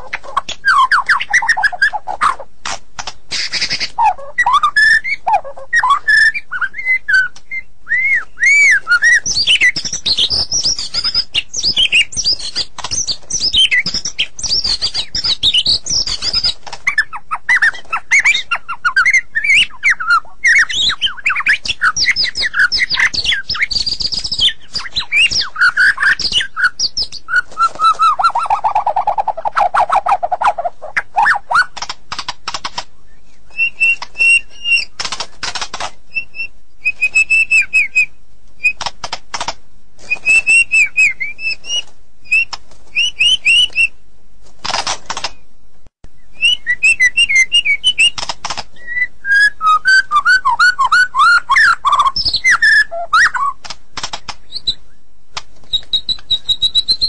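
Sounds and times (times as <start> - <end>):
bird singing whistled notes: 0.4 - 2.4, 3.3 - 31.8, 33.0 - 35.0, 36.1 - 38.8, 40.1 - 44.0, 46.1 - 48.2, 48.8 - 53.6, 55.7 - 57.0.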